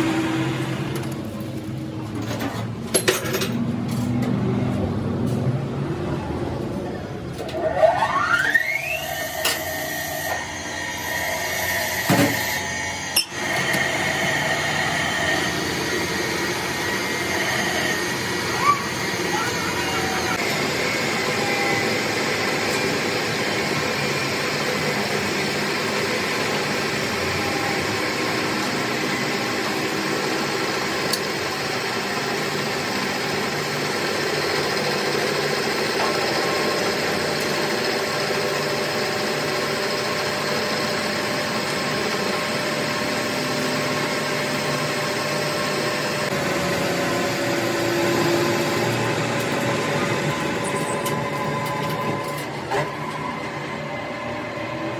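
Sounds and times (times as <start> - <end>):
metalworking machine running: 0.0 - 54.9.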